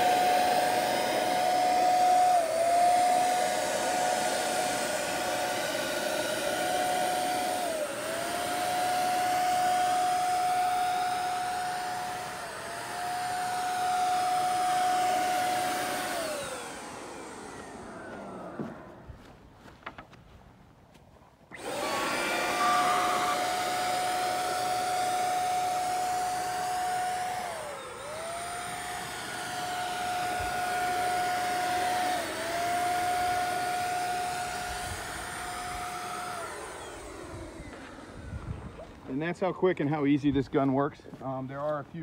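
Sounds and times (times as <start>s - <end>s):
paint sprayer whining: 0.0s - 20.1s, 21.5s - 42.0s.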